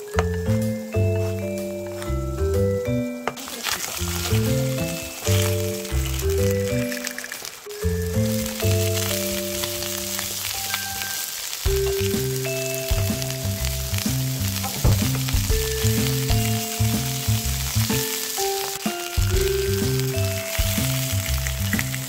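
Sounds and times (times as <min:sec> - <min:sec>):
background music with bass: 0:00.0 - 0:03.4, 0:04.0 - 0:06.9, 0:07.8 - 0:10.8, 0:11.7 - 0:18.2, 0:18.9 - 0:22.0
food sizzling in a pan: 0:00.0 - 0:22.0.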